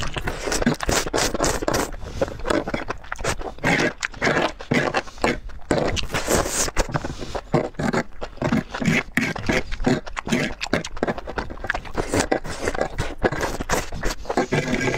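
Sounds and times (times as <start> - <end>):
person slurping noodles: 0.0 - 14.9.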